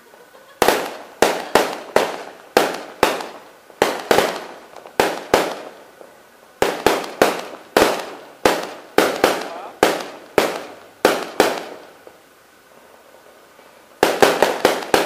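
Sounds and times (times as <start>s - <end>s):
fireworks bangs echoing: 0.0s - 15.0s.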